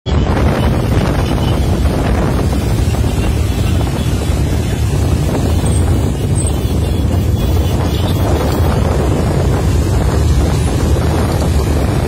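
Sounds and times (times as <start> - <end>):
motorcycle engines rumbling: 0.1 - 12.0
wind buffeting microphone: 0.1 - 12.0.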